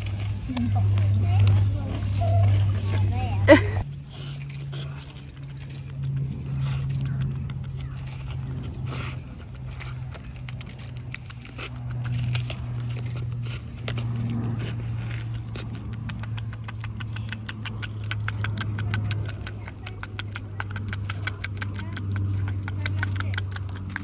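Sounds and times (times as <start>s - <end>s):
animal licking fruit clicking: 0.0s - 24.0s
low mechanical hum: 0.0s - 24.0s.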